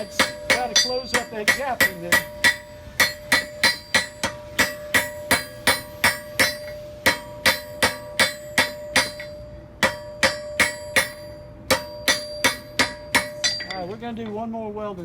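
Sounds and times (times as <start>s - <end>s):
anvil ringing: 0.0s - 14.0s
hammer striking iron on anvil: 0.0s - 14.4s.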